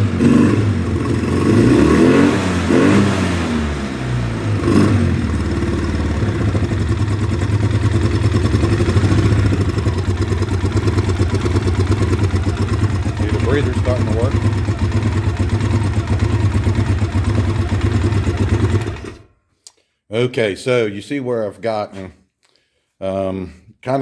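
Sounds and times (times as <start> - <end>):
atv engine revving and idling rough: 0.0 - 19.3.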